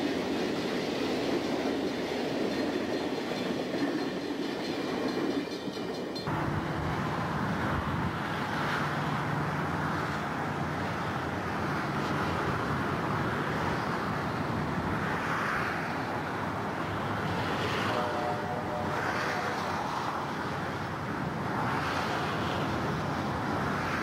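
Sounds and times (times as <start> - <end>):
distant diesel locomotive drone: 0.0 - 24.0.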